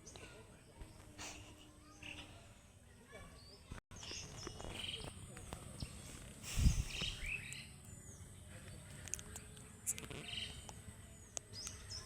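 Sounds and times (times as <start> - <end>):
birds chirping: 0.0 - 12.0
low outdoor background: 0.0 - 12.0.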